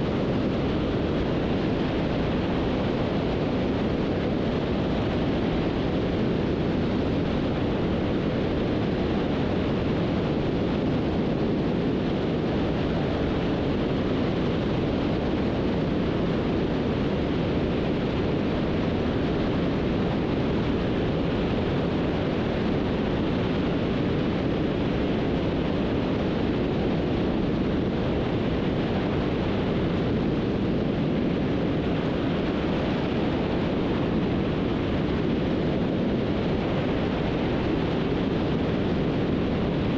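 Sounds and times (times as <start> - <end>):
aircraft engines running: 0.0 - 39.9
wind noise inside aircraft: 0.0 - 39.9.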